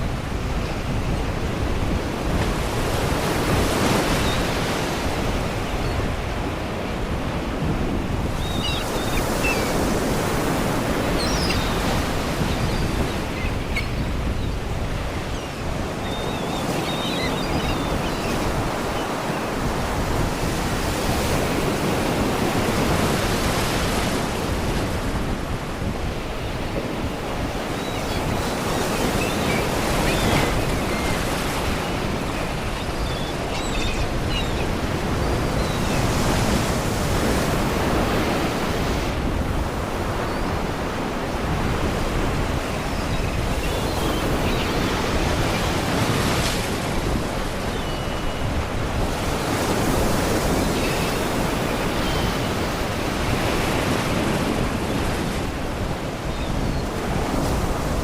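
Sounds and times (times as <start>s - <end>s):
seagulls calling: 0.5s - 24.2s, 25.9s - 39.1s, 39.7s - 57.9s.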